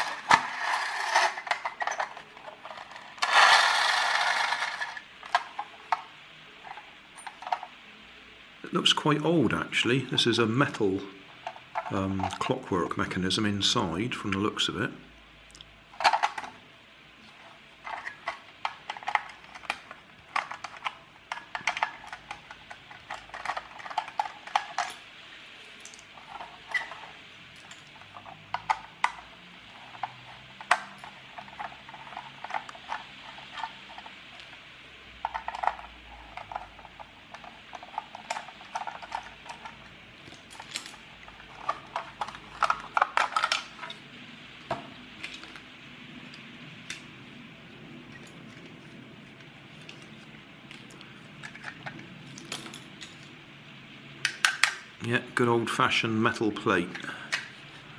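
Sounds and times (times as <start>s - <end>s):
small parts clicking and clattering: 0.0s - 7.9s, 10.6s - 12.6s, 15.5s - 47.2s, 48.0s - 53.4s, 54.2s - 55.0s, 56.7s - 57.8s.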